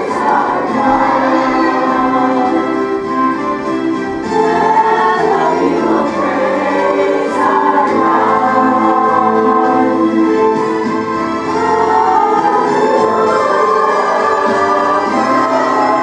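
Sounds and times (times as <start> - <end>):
choir singing: 0.0 - 16.0
instrumental accompaniment: 0.0 - 16.0.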